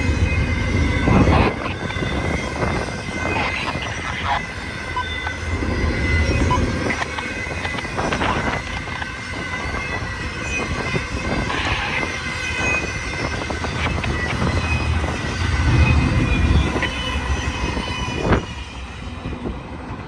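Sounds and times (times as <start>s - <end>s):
freight train cars rolling: 0.0s - 20.0s.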